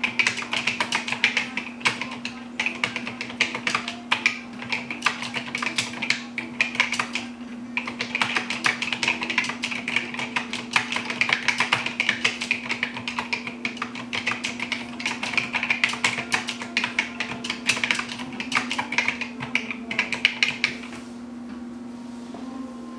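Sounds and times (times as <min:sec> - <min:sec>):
fast keyboard typing: 0:00.0 - 0:20.9
steady low hum: 0:00.0 - 0:22.9.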